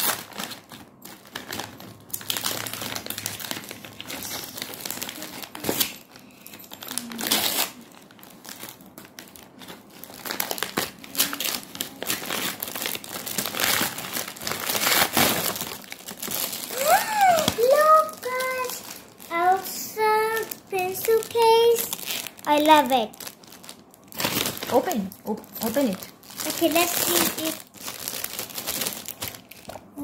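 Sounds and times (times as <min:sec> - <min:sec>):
wrapping paper crinkling: 0:00.0 - 0:30.0.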